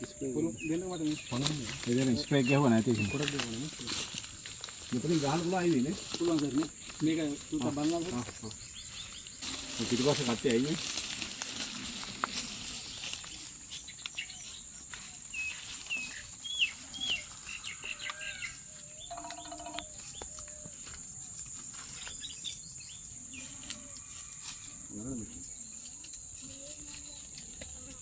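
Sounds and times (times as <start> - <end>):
birds chirping: 0.0 - 26.4
high-pitched insect drone: 0.0 - 28.0.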